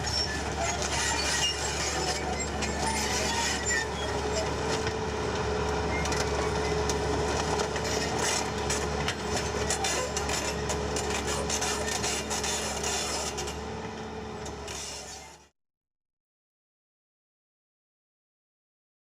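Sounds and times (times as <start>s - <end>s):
heavy machine engine running: 0.0s - 15.5s.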